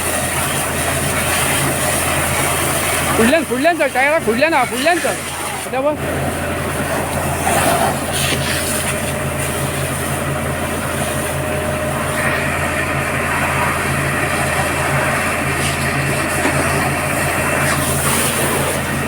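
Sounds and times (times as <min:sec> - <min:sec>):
fire engine running: 0:00.0 - 0:19.0.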